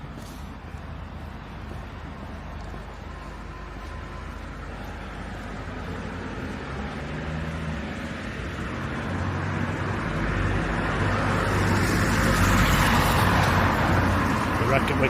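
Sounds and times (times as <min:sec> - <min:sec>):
vehicle approaching: 0:00.0 - 0:15.0.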